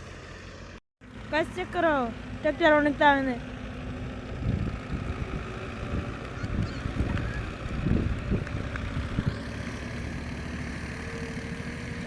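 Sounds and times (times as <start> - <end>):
tractor engine running hard: 0.0 - 12.0.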